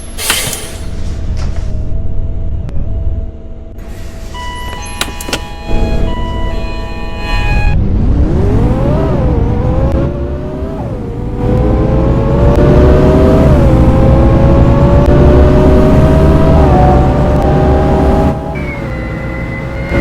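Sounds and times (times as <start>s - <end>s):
bus engine pulling away: 3.8s - 20.0s.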